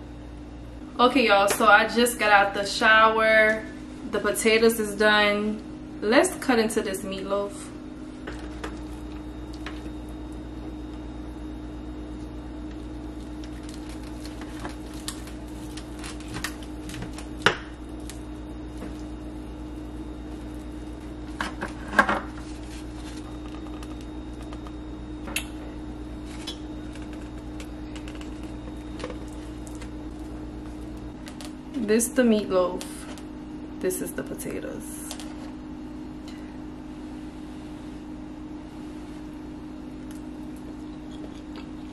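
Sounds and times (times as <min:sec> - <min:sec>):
low appliance hum: 0:00.0 - 0:41.9.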